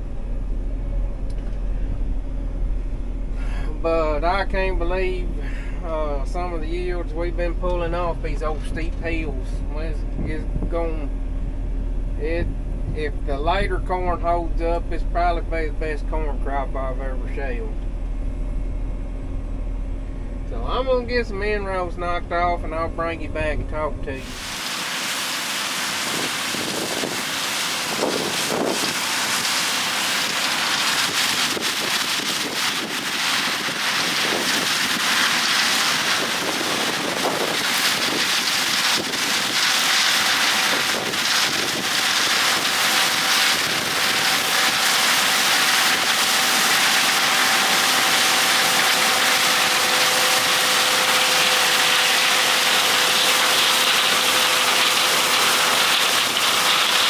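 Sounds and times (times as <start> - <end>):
combine harvester running: 0.0 - 57.0
steady machine whine: 0.0 - 57.0.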